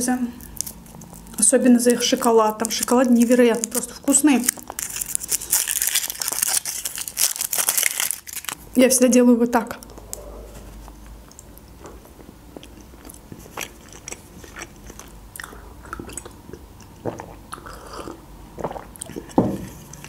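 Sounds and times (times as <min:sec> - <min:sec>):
person biting and chewing chocolate: 0:00.4 - 0:08.6, 0:09.8 - 0:20.0.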